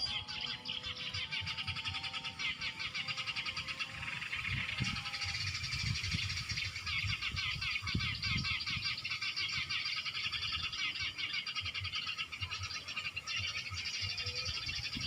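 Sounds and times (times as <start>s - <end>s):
sparrows chattering: 0.0s - 15.0s.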